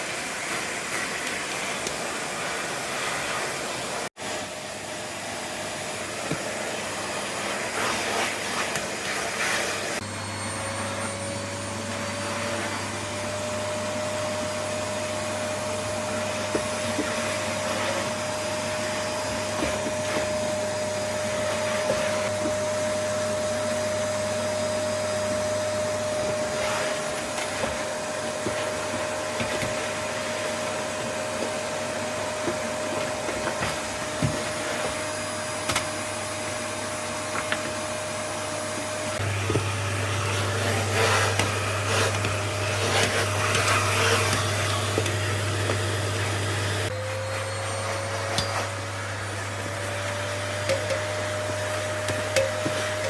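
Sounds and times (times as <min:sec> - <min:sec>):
vacuum cleaner motor whine: 0:00.0 - 0:53.0.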